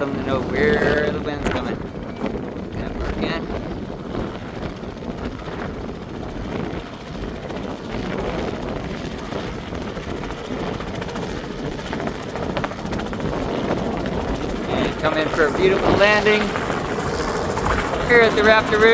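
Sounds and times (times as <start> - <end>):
helicopter engine noise: 0.0 - 18.9
helicopter rotor chopping: 0.0 - 18.9.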